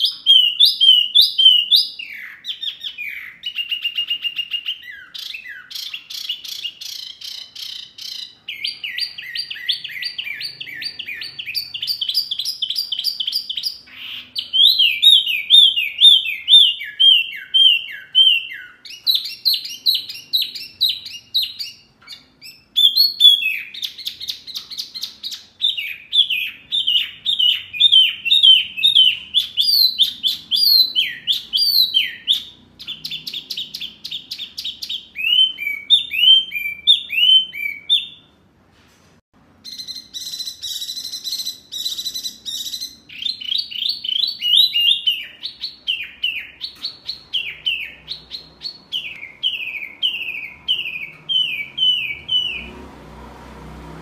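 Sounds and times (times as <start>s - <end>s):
bird singing whistled notes and trills: 0.0s - 38.4s, 39.6s - 52.8s.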